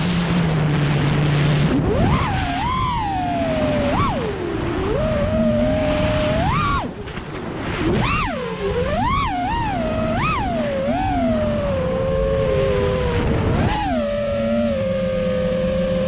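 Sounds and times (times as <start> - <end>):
drone motors whining: 0.0 - 16.0
rushing wind: 0.0 - 16.0.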